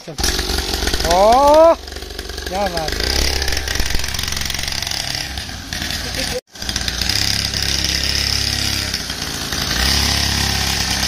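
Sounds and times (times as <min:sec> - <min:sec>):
small dirt bike engine buzzing: 0:00.0 - 0:11.0.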